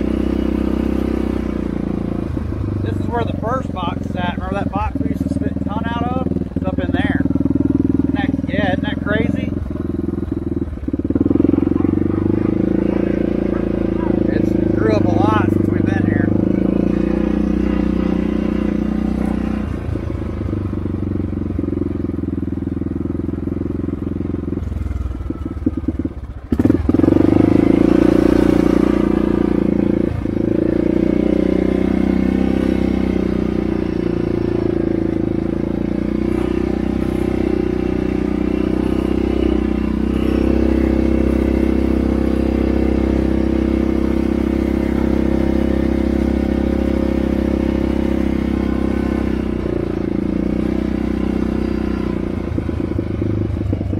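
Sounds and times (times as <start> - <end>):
four-wheeler engine running: 0.0 - 53.9.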